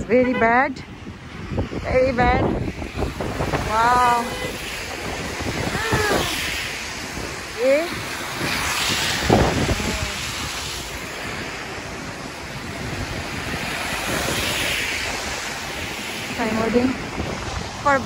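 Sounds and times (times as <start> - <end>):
wind rumbling on microphone: 0.0 - 18.0
car tyres hissing on snow: 2.6 - 18.0.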